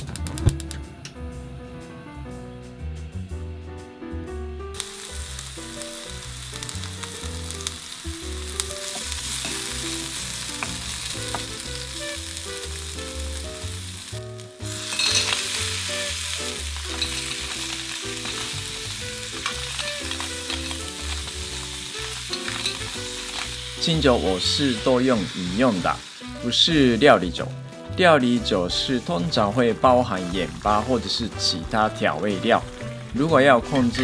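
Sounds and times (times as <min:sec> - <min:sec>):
light background music: 0:00.0 - 0:34.0
garlic sizzling in frying pan: 0:04.7 - 0:34.0.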